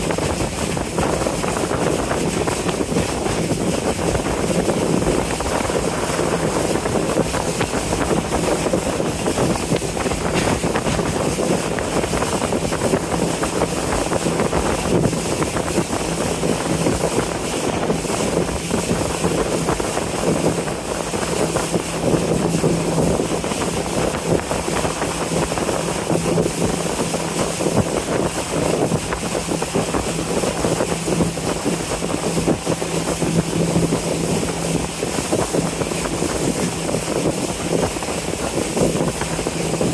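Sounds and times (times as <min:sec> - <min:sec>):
boat engine droning: 0:00.0 - 0:39.9
wind on microphone: 0:00.0 - 0:39.9.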